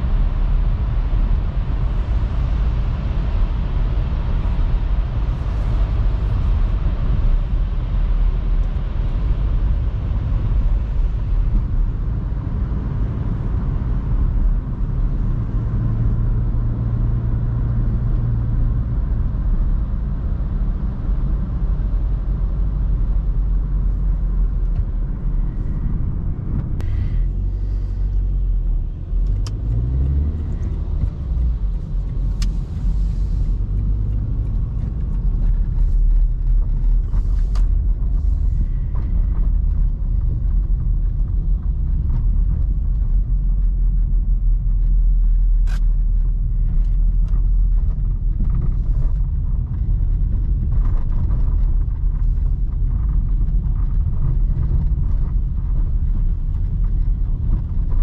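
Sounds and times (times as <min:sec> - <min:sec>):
car engine humming: 0:00.0 - 0:58.0
road noise: 0:00.0 - 0:58.0.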